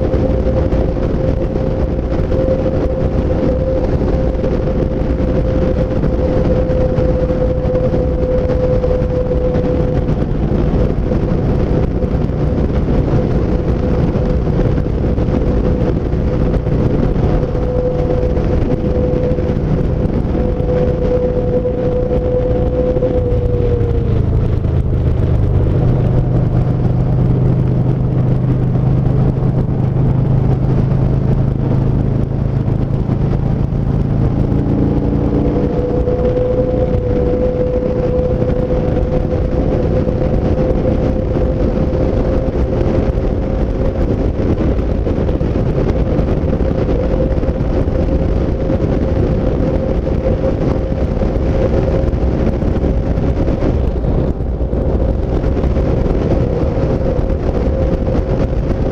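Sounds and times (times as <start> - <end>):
motorcycle engine running: 0.0 - 58.9
wind rush over microphone: 0.0 - 58.9.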